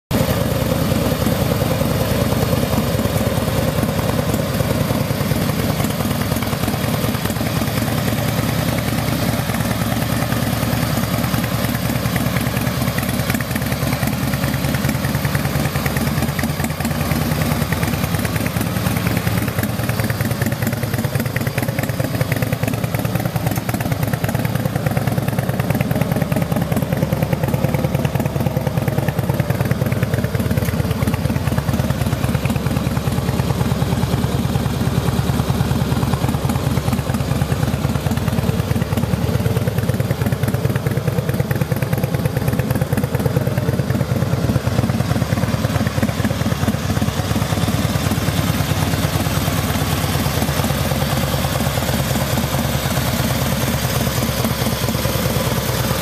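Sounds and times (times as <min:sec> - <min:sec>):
motorcycle engine idling: 0:00.1 - 0:56.0.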